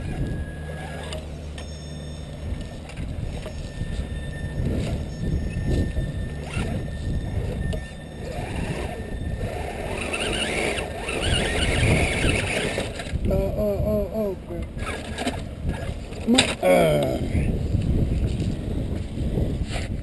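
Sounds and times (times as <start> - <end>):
high squealing: 0.0 - 17.6
toy car motor whine: 0.0 - 20.0
wind buffeting microphone: 2.2 - 20.0.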